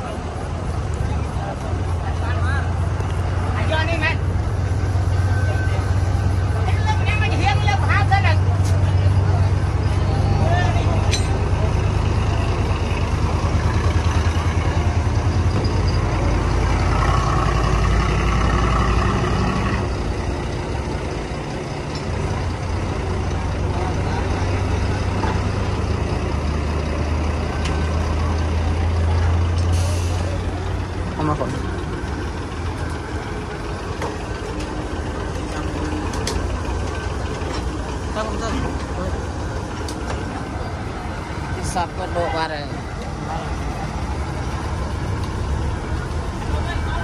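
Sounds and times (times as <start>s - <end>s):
diesel engine rumbling: 0.0s - 47.0s.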